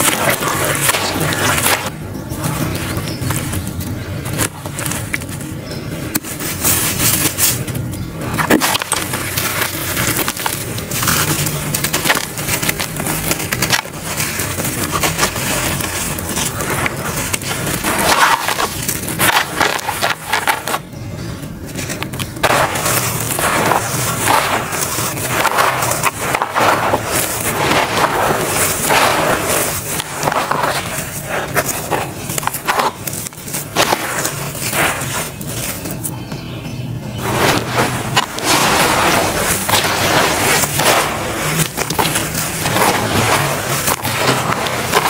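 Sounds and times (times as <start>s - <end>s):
charcoal crunching and crackling: 0.0s - 20.9s, 21.6s - 36.2s, 37.2s - 45.0s.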